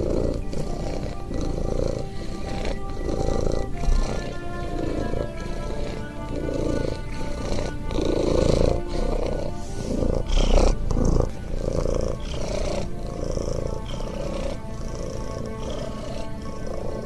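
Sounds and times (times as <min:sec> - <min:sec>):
cat purring: 0:00.0 - 0:17.0
soft background music: 0:00.0 - 0:17.0.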